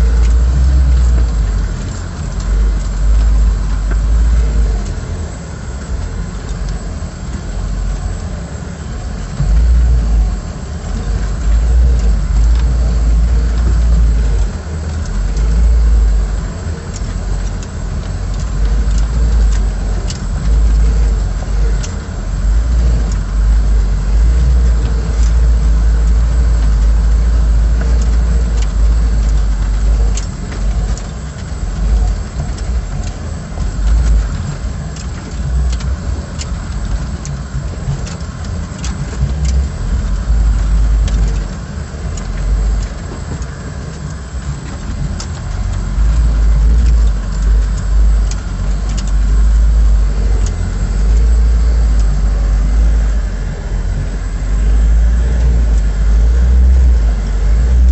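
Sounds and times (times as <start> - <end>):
four-cylinder engine running: 0.0 - 57.9
sharp clicks and knocks: 9.1 - 57.9.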